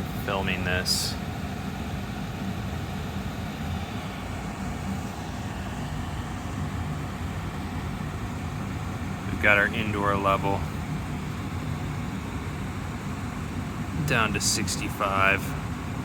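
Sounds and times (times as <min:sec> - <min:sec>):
air purifier fan running: 0:00.0 - 0:16.0.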